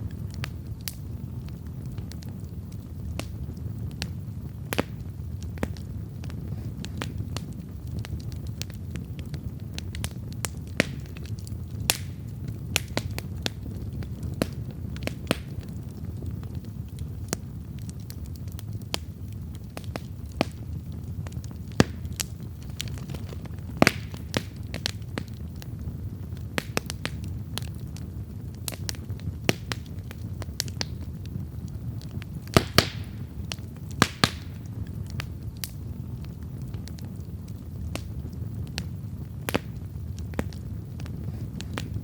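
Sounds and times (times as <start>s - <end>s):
campfire crackling and popping: 0.0s - 42.0s
fire burning low rumble: 0.0s - 42.0s.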